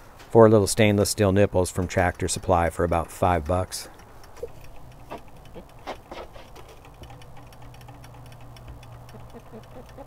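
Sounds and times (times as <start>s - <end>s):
low steady hum: 0.0s - 10.0s
rooster pecking metal drinkers: 1.8s - 10.0s.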